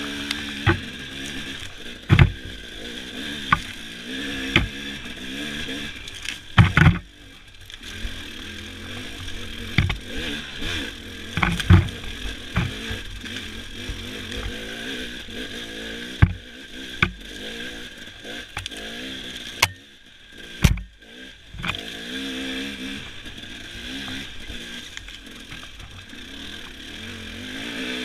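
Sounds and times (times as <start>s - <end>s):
knocks and clatter over rocks: 0.0s - 22.0s, 22.9s - 27.1s
dirt bike engine revving: 0.0s - 28.0s.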